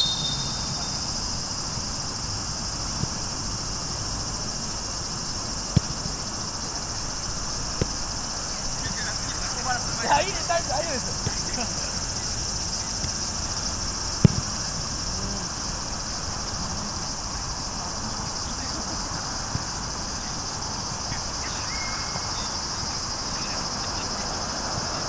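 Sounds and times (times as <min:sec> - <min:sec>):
chirring insects: 0:00.0 - 0:25.0.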